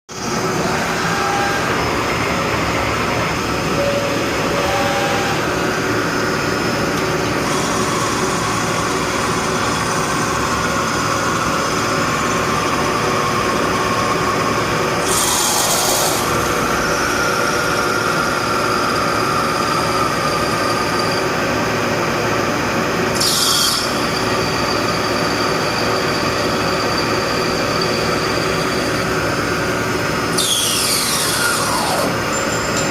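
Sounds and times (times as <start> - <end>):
cnc machine whining: 0.1 - 32.9.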